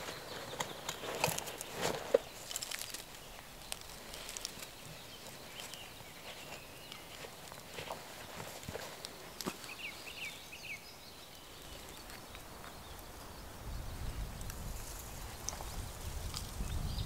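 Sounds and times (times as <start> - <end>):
small bird chirping: 0.0 - 14.5.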